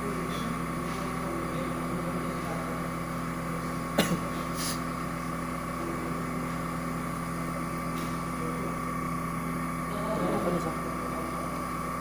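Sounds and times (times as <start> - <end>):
milling machine motor whine: 0.0 - 12.0.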